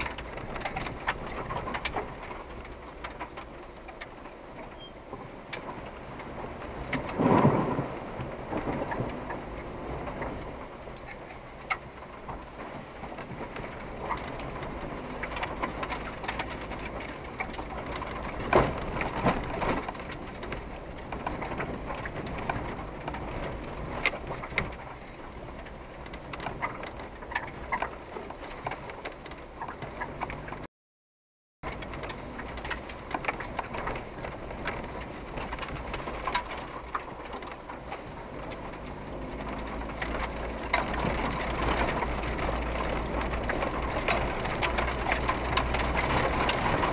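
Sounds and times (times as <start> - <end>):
car engine running low: 0.0 - 30.7, 31.6 - 46.9
stones and cabin rattles: 0.0 - 30.7, 31.6 - 46.9
tyre and road noise: 0.0 - 30.7, 31.6 - 46.9.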